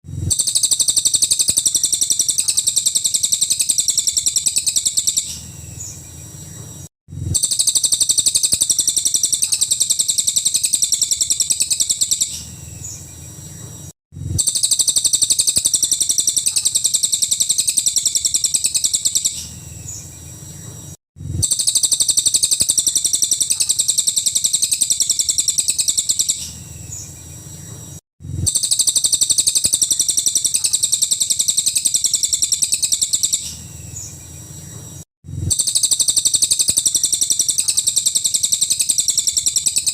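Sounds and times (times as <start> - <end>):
rapid high-pitched bird song: 0.2 - 39.9.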